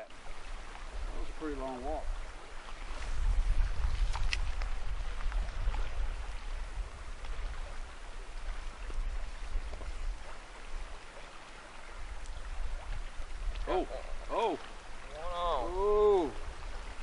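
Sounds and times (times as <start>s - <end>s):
wind buffeting microphone: 0.0s - 11.2s, 11.8s - 17.0s
river flowing: 0.0s - 17.0s.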